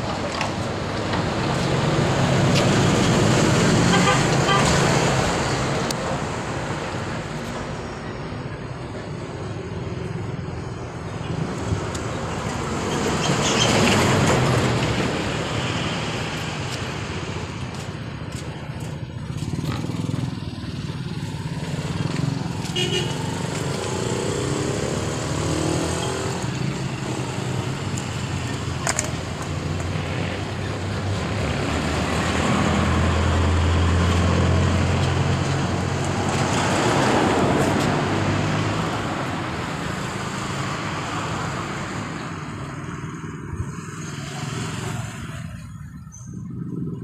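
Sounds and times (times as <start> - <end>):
vehicles passing by: 0.0 - 47.0.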